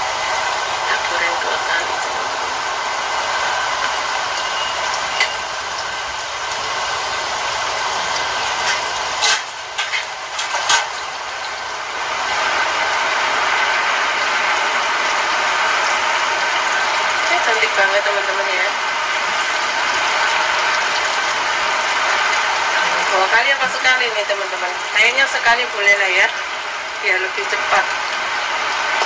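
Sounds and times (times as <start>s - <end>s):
chicken sizzling in hot oil: 0.0s - 29.0s.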